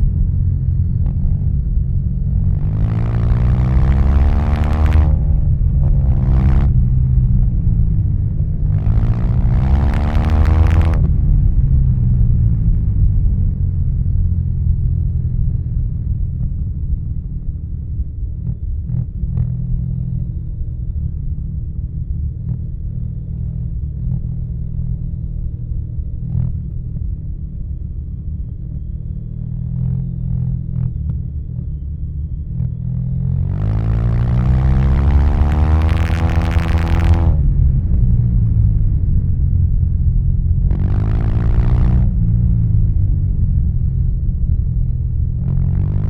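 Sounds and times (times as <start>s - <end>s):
motorcycle engine running: 0.0s - 17.1s, 22.1s - 46.0s.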